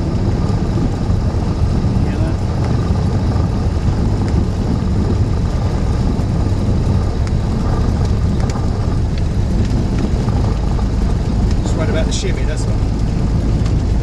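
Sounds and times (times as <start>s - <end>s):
propeller plane engine running: 0.0s - 14.0s.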